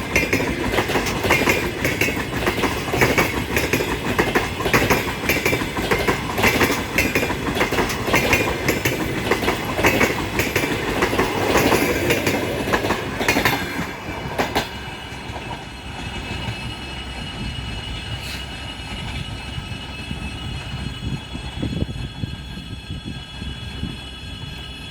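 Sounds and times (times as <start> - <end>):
train rumble: 0.0 - 24.9
train wheels clickety-clack: 0.0 - 24.9.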